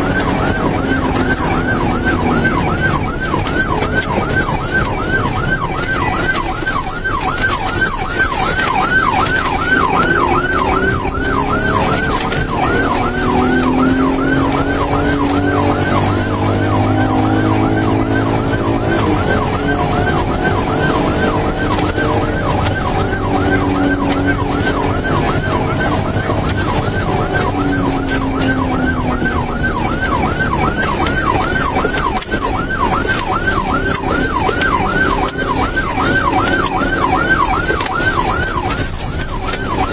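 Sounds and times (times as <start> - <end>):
car engine and road noise: 0.0 - 39.9
police siren yelping: 0.0 - 39.9.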